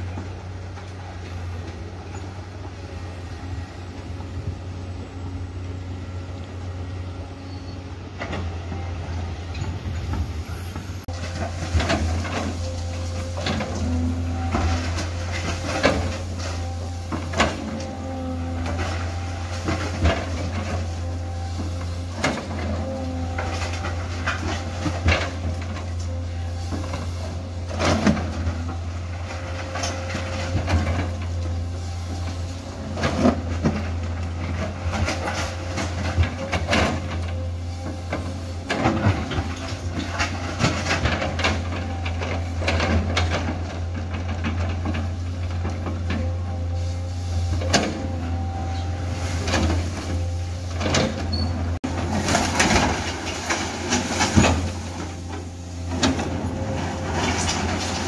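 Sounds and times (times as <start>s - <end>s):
excavator engine hum: 0.0s - 58.0s.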